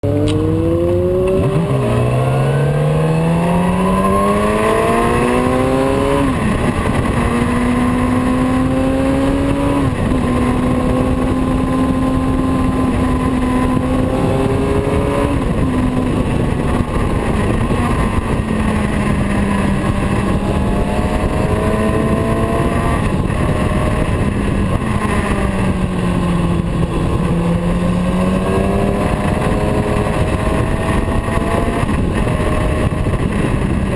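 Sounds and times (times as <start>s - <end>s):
loud steady rushing noise: 0.0s - 33.9s
motorcycle engine shifting gears: 0.0s - 33.9s.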